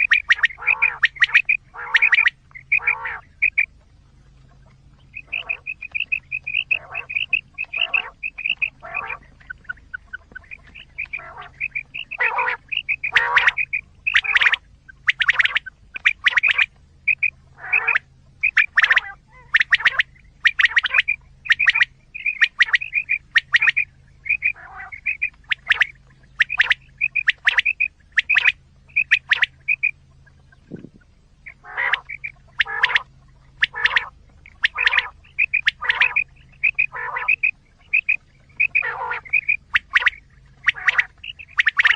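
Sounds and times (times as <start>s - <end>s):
faint low hum: 0.0s - 41.9s
recorded quail calls: 0.0s - 41.9s.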